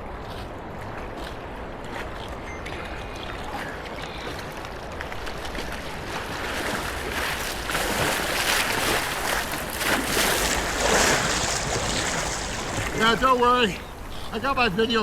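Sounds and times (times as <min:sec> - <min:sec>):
whitewater rushing and splashing: 0:00.0 - 0:15.0.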